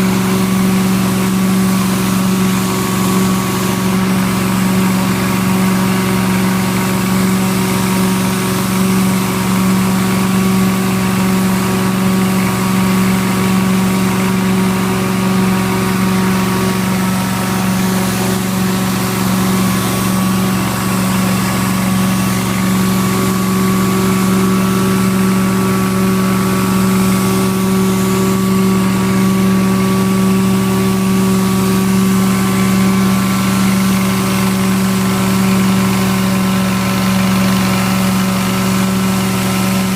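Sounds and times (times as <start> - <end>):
carpet extractor machine hum: 0.0 - 39.9.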